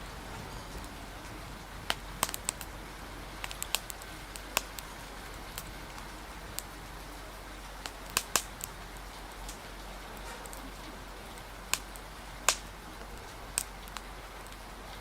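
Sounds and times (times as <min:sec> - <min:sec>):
rain hiss: 0:00.0 - 0:15.0
wood fire crackling and popping: 0:00.0 - 0:15.0.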